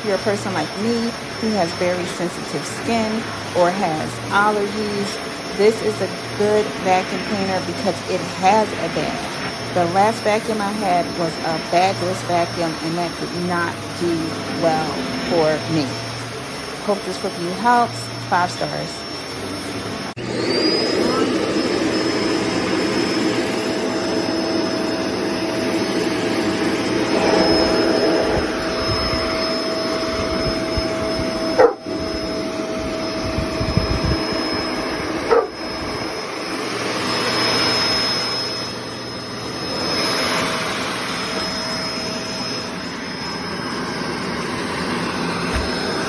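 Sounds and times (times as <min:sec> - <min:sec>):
vacuum cleaner motor whine: 0:00.0 - 0:46.0.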